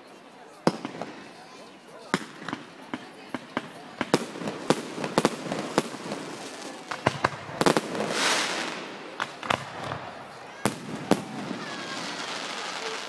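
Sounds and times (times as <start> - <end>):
fireworks bangs: 0.6 - 13.0.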